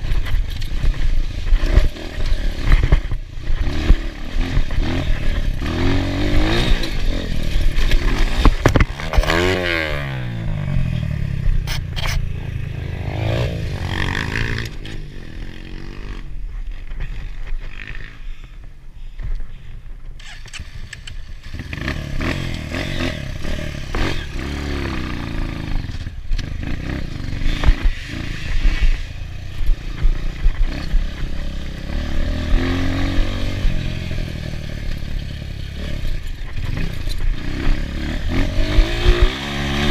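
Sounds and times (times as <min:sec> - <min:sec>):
motorcycle engine revving: 0:00.0 - 0:18.4, 0:20.2 - 0:39.9.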